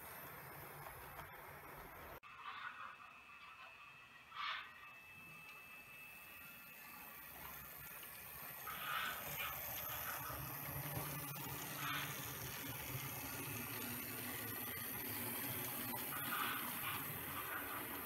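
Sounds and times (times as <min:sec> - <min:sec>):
model train motor hum and rumble: 0:00.0 - 0:18.0.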